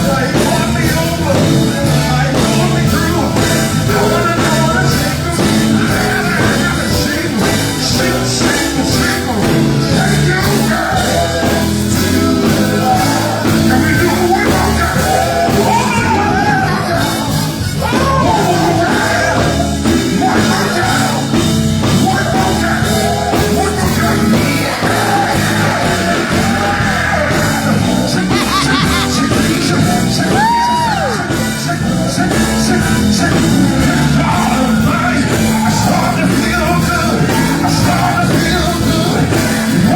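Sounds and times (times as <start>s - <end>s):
group singing gospel: 0.0s - 39.9s
loud amplified band: 0.0s - 39.9s.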